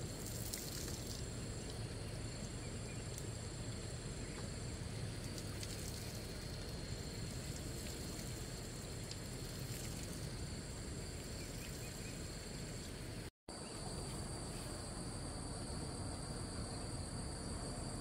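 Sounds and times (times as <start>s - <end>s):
background hiss: 0.0s - 17.9s
insects chirring: 0.0s - 18.0s.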